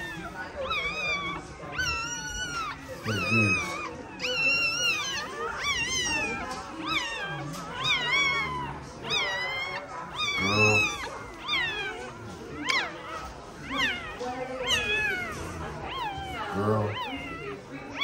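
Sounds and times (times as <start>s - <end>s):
puppies crying: 0.0s - 18.0s.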